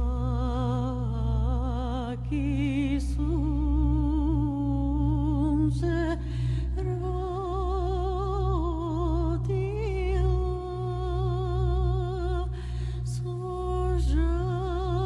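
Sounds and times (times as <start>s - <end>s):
steady low drone: 0.0s - 15.0s.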